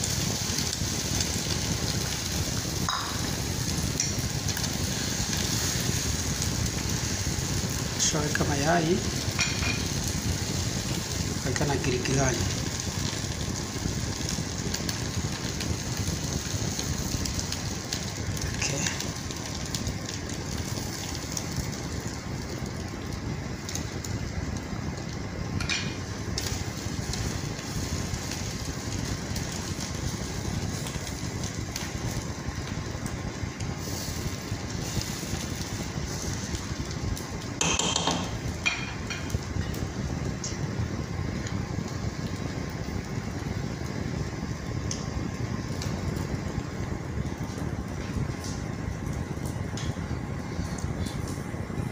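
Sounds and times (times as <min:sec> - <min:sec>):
food frying hiss: 0:00.0 - 0:51.9.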